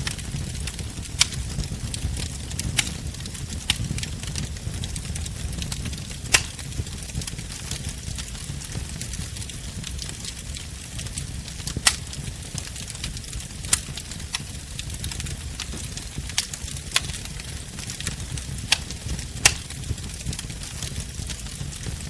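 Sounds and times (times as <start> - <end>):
bonfire flames rumbling: 0.0 - 22.0
fire crackling and popping: 0.0 - 22.0.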